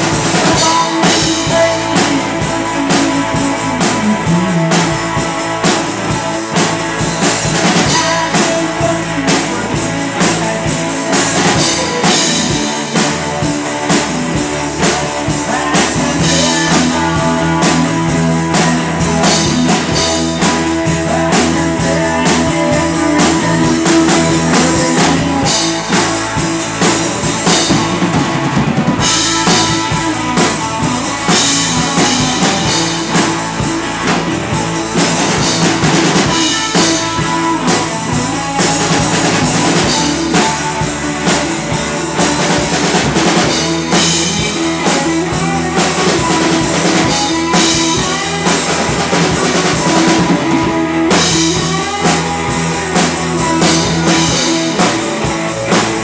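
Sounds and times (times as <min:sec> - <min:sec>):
live rock band: 0:00.0 - 0:56.0.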